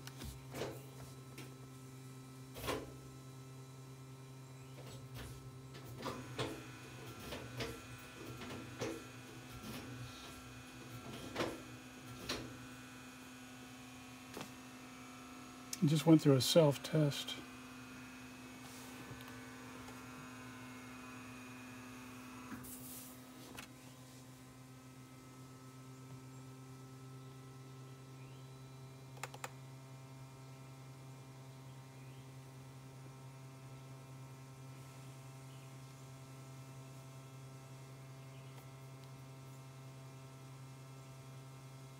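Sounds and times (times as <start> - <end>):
transmission hum: 0.0 - 41.9.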